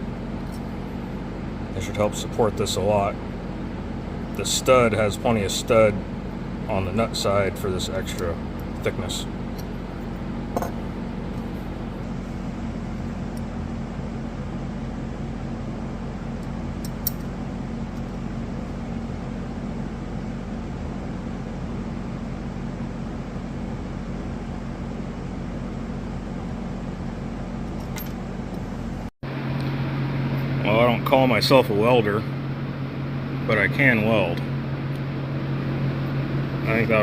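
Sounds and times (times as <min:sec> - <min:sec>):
machine hum with hiss: 0:00.0 - 0:37.0.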